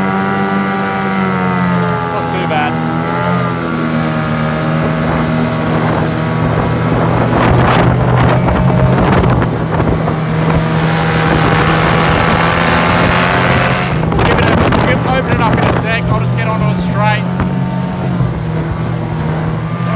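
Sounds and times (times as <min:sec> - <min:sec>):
outboard motor running: 0:00.0 - 0:19.9
water rushing: 0:00.0 - 0:19.9
wind buffeting microphone: 0:00.0 - 0:19.9.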